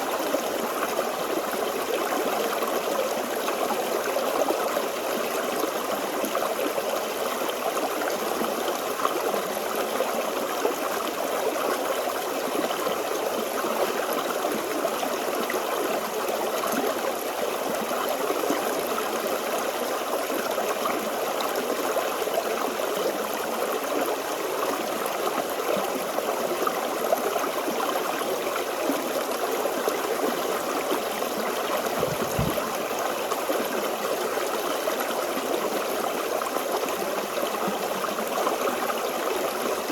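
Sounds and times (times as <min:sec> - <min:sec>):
stream babbling and trickling: 0:00.0 - 0:39.9.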